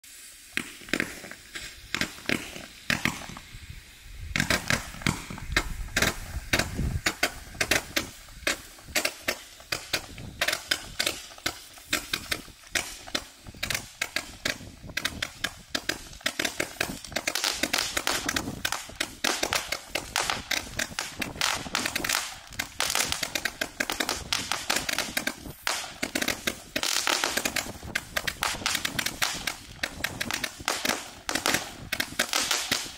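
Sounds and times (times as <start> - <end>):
firework cake rapid shots: 0.0 - 32.9.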